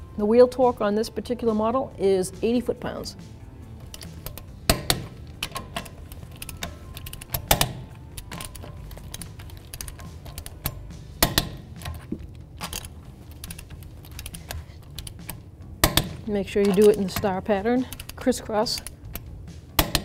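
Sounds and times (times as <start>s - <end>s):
wrench ratcheting: 3.8s - 20.0s
torque wrench clicks: 3.9s - 20.0s.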